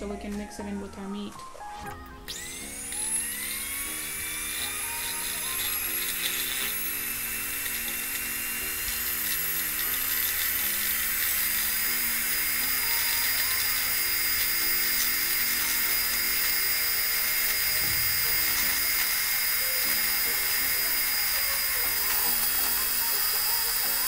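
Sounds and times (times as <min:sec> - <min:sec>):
electric hand mixer whining: 0:01.6 - 0:24.0.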